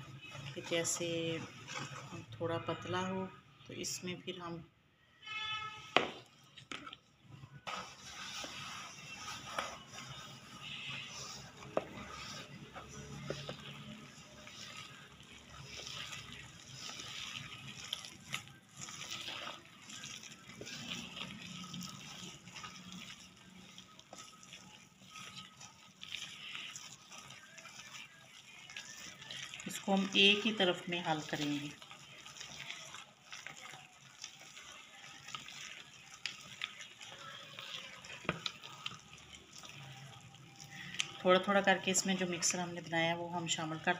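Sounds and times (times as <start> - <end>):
wet paste mixing and scraping: 0.0 - 4.6, 5.2 - 43.9.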